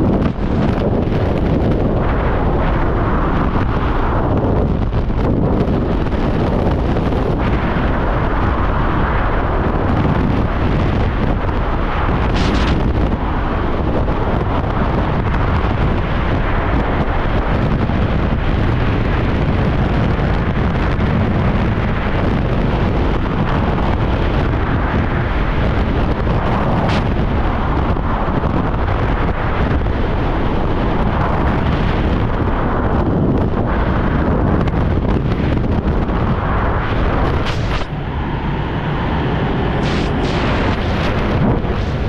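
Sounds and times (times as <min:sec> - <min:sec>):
wind rushing over microphone: 0:00.0 - 0:42.0.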